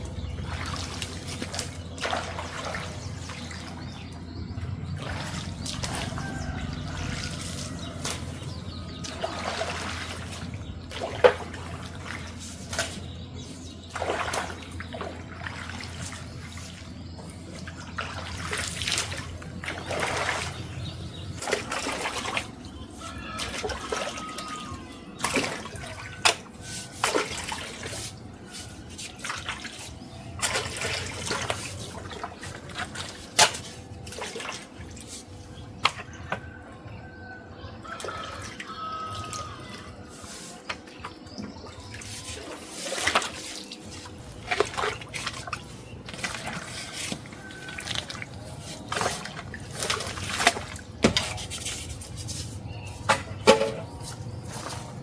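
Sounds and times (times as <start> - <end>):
water splashing and trickling: 0.0 - 55.0.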